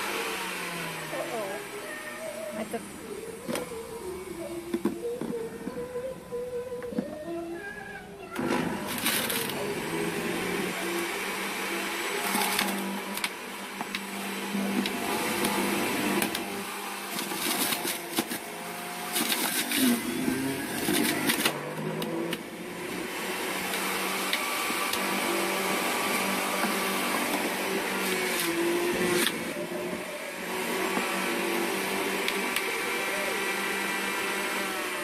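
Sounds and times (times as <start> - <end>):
vegetables crunching in juicer: 0.0 - 2.6, 8.3 - 35.0
electric juicer motor running: 0.0 - 7.3, 8.2 - 35.0.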